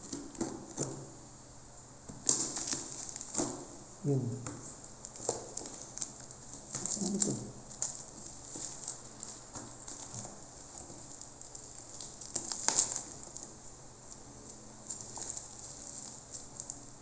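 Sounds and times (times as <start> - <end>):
plastic wrapping crinkling: 2.2 - 3.8, 4.6 - 17.0.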